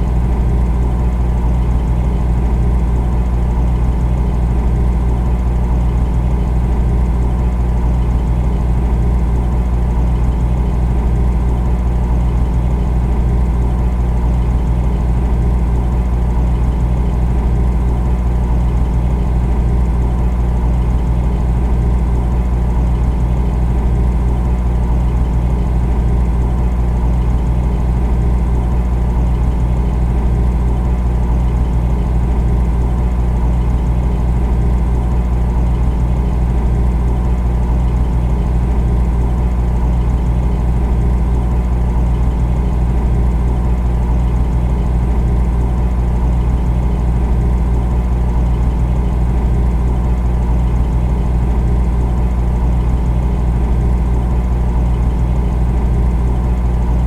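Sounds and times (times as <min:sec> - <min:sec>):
refrigerator humming: 0:00.0 - 0:57.0.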